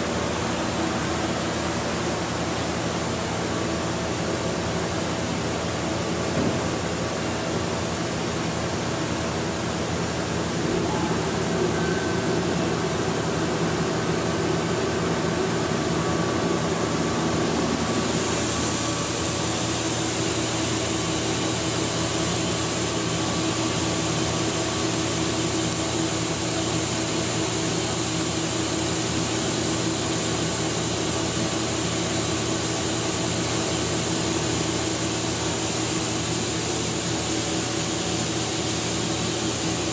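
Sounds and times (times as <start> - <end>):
machine hum with steady tones: 0.0 - 39.9.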